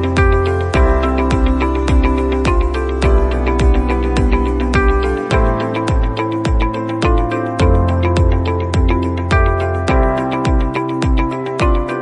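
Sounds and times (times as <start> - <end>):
bass drum hits: 0.2 - 11.2.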